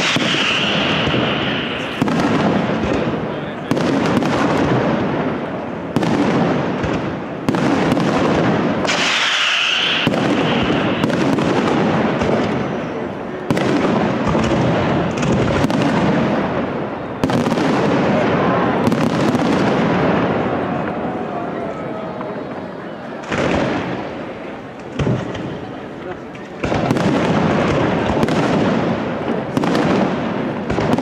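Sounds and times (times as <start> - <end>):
fireworks rumbling and crackling: 0.0 - 31.0
loud firework reports: 0.0 - 31.0.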